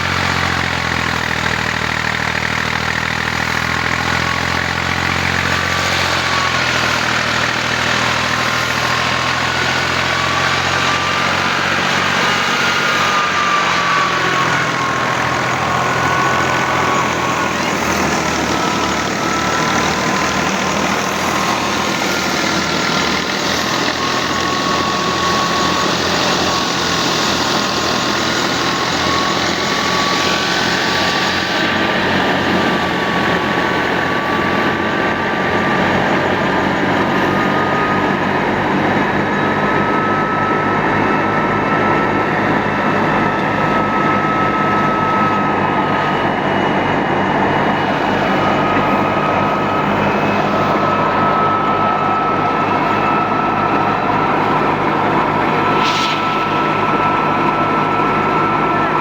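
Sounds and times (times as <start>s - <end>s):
thresher high whine: 0.0s - 59.0s
tractor engine running: 0.0s - 59.0s.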